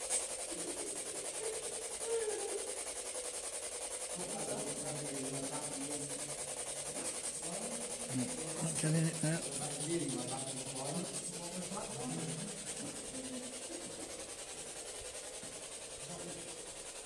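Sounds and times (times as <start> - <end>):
faint murmuring voices: 0.0 - 17.0
steady hiss: 0.0 - 17.0.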